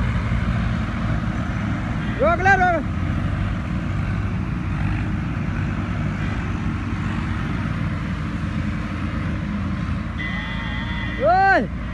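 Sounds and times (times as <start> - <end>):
tractor diesel engines under load: 0.0 - 11.9.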